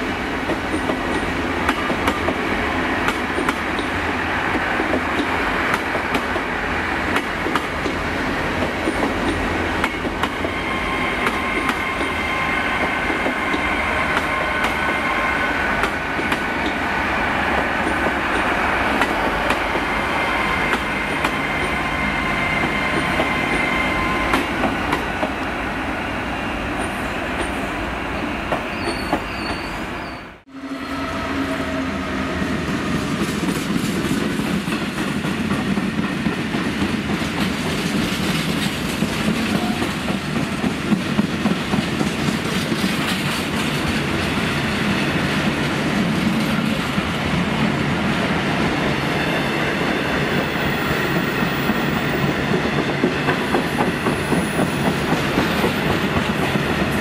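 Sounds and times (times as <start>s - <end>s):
train running past: 0.0s - 57.0s.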